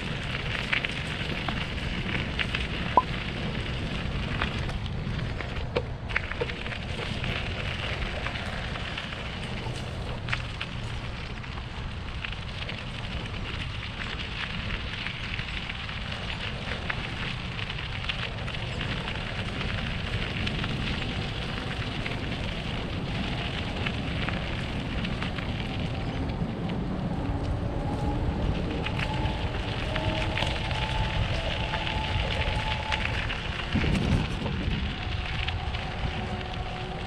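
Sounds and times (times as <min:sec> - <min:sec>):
bicycle tyre crackle: 0:00.0 - 0:37.0
wind rumble on microphone: 0:00.0 - 0:37.0.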